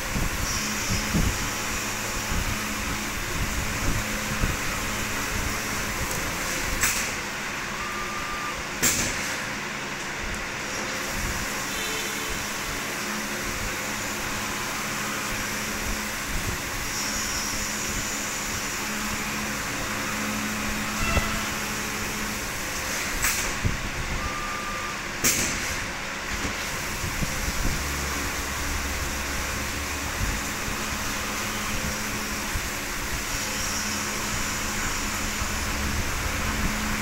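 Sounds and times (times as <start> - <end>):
milling machine hum and hiss: 0.0 - 37.0.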